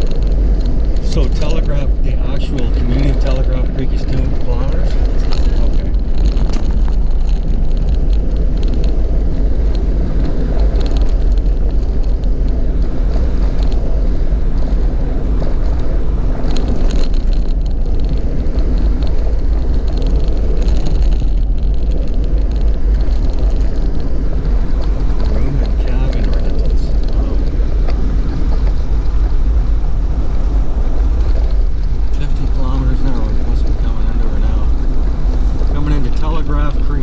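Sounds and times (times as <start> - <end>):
engine and tyres rumbling: 0.0 - 37.0
light rattles and clicks: 0.0 - 37.0.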